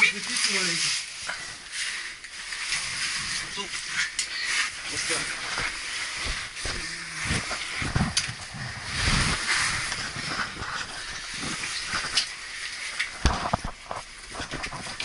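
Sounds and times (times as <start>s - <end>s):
clothing scraping against rock: 1.8s - 15.0s.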